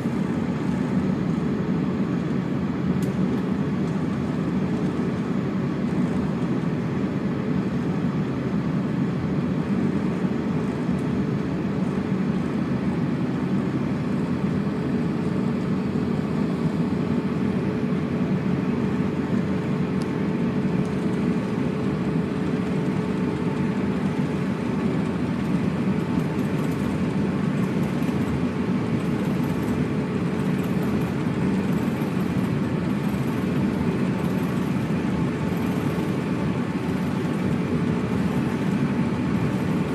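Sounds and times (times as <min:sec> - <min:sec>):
aircraft cabin hum: 0:00.0 - 0:39.9
faint steady engine whine: 0:00.0 - 0:39.9.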